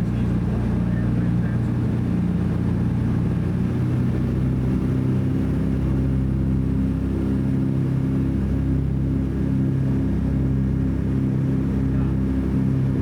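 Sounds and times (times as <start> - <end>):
piston aircraft engines droning: 0.0 - 13.0.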